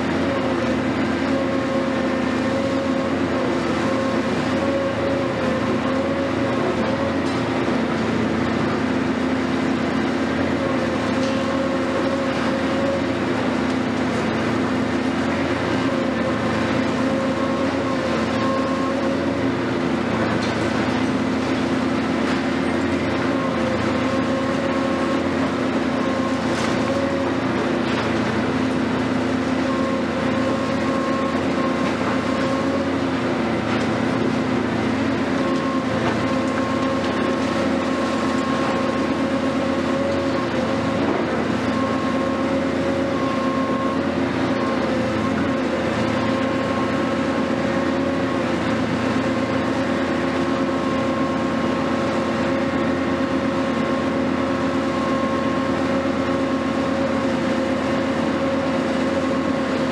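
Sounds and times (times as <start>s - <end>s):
excavator engine and hydraulic whine: 0.0s - 59.9s.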